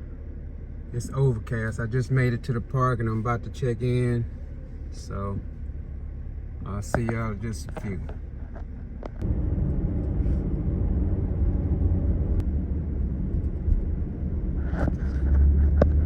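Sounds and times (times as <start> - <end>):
road and engine rumble in car cabin: 0.0 - 16.0.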